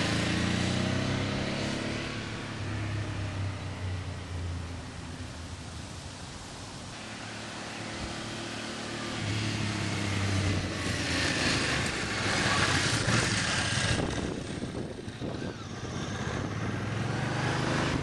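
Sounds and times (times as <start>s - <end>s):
motorcycle driving past: 0.0s - 5.3s, 7.0s - 18.0s.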